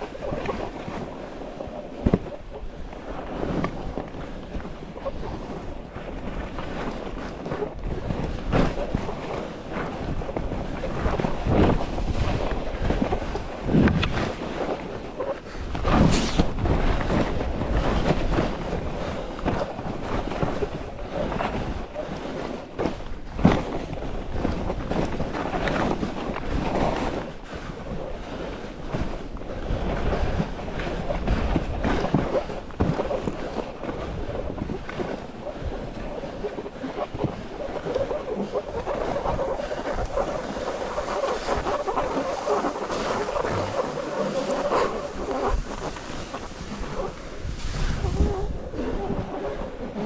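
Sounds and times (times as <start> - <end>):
skis scraping over snow: 0.0 - 50.0
wind on microphone: 0.0 - 50.0.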